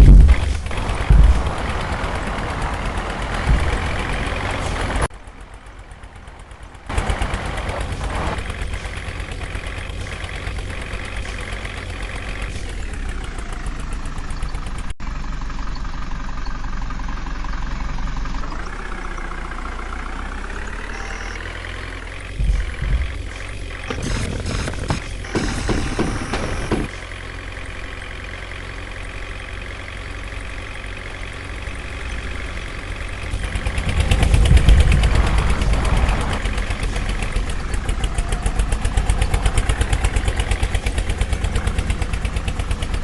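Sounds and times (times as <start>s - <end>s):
diesel engine revving: 0.0s - 43.0s.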